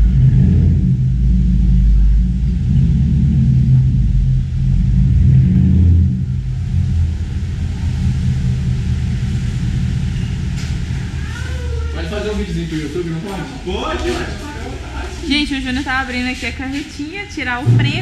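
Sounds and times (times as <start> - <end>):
car engine low rumble: 0.0 - 18.0.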